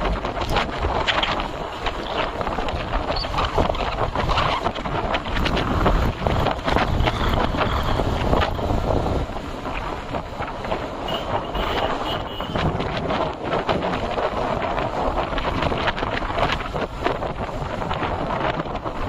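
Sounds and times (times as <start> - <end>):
motorcycle running: 0.0 - 19.0
wind buffeting microphone: 0.0 - 19.0.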